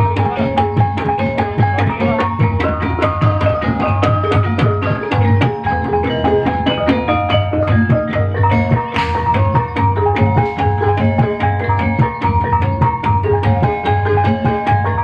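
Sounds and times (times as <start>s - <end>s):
hand drums beating: 0.0s - 15.0s
struck pitched percussion melodies: 0.0s - 15.0s.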